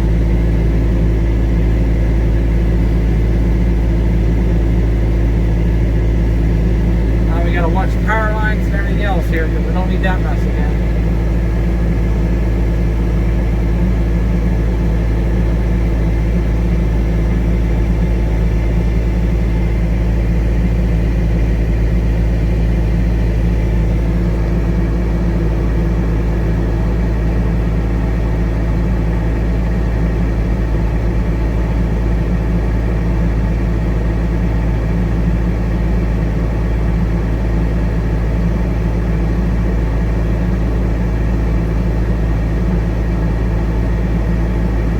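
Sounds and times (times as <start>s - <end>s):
large diesel engine running: 0.0s - 44.9s.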